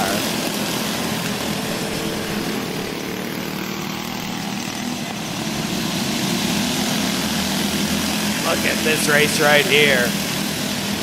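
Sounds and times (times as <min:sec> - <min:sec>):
go-kart engines buzzing: 0:00.0 - 0:11.0.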